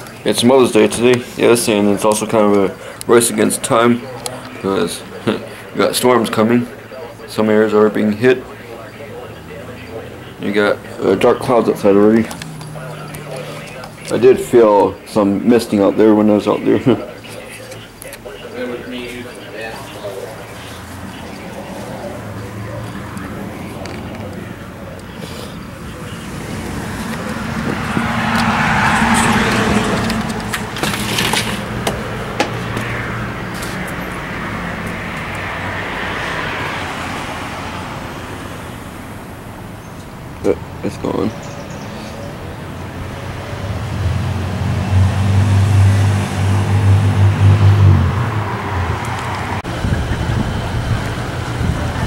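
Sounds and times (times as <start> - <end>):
vehicle passing by: 0.0 - 52.0.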